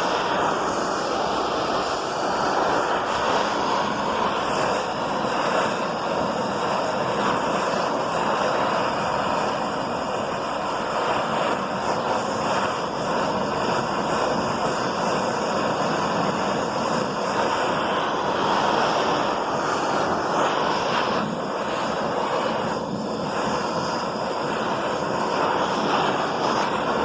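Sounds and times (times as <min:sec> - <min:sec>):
torch flame hissing: 0:00.0 - 0:27.0.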